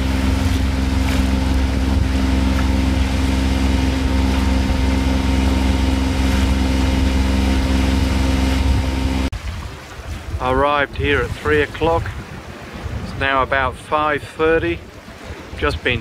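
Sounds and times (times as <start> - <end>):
boat engine running steadily: 0.0 - 16.0
wind and water hiss: 0.0 - 16.0.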